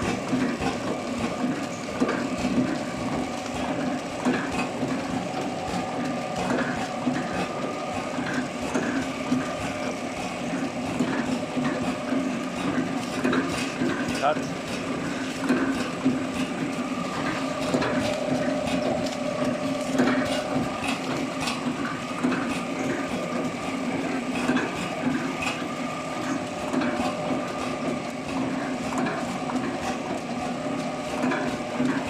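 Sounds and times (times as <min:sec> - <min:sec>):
machine clicks and clatter: 0:00.0 - 0:32.0
packaging machine humming: 0:00.0 - 0:32.0.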